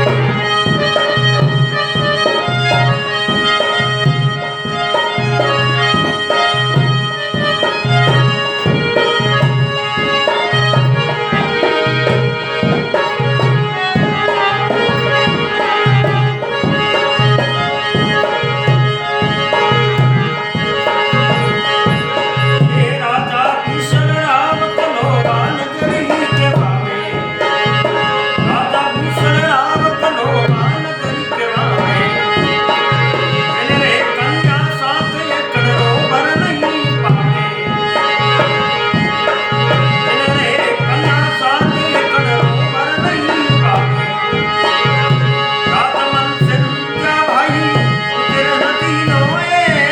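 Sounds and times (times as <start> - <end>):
harmonium drone: 0.0 - 49.9
tabla beat: 0.0 - 49.9
wavering melody line: 1.1 - 41.3.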